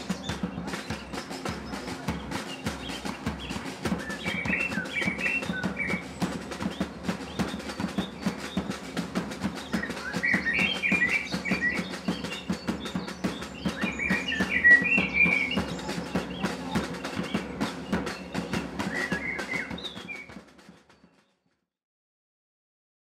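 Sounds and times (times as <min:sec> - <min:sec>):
clicking percussion music: 0:00.0 - 0:20.4
bird-like chirps: 0:00.0 - 0:21.4.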